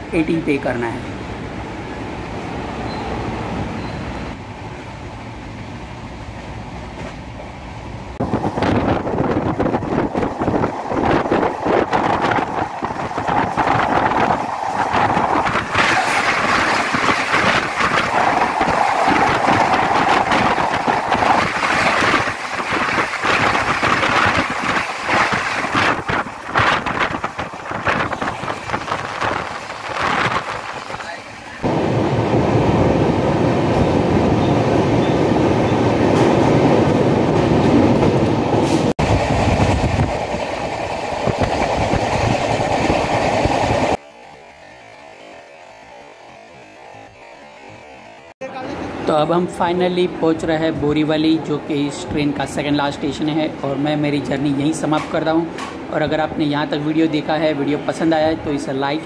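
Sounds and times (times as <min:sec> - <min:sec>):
train coach rumble: 0:00.0 - 0:49.0
rush of track noise: 0:00.0 - 0:59.0.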